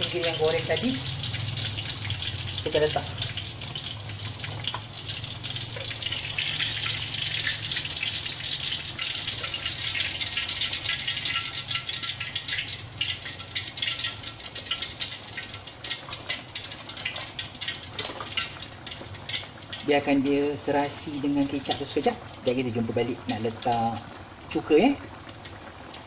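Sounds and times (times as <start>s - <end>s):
gravy sizzling in a wok: 0.0s - 26.0s.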